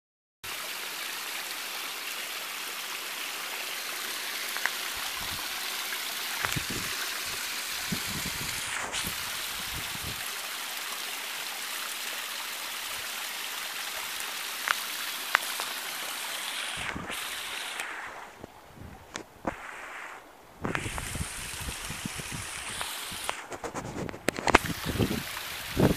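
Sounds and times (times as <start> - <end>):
waterfall splashing into stream: 0.4 - 19.7, 20.6 - 23.6, 24.3 - 25.9.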